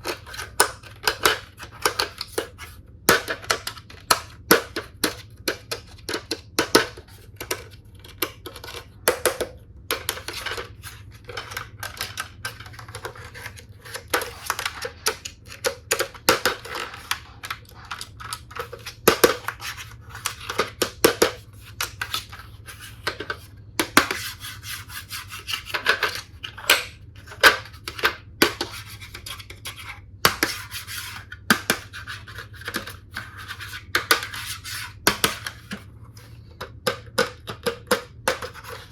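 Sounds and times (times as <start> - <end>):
scratching and rubbing packaging: 0.0 - 9.3, 9.9 - 36.6, 37.3 - 38.9.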